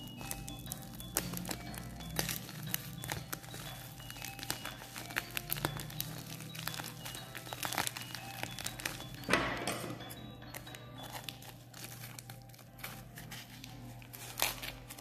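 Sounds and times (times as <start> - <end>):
plastic mailer bag crinkling: 0.0 - 9.3, 10.5 - 15.0
faint background music: 0.0 - 15.0.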